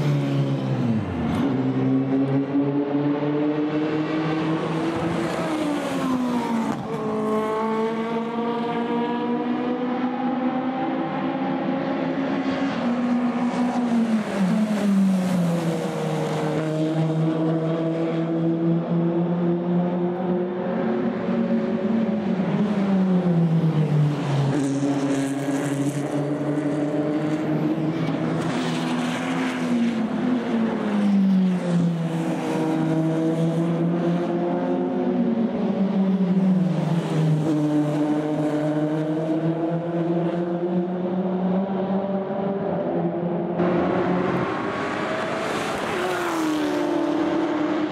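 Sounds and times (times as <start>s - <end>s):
sports car engines passing: 0.0s - 47.9s.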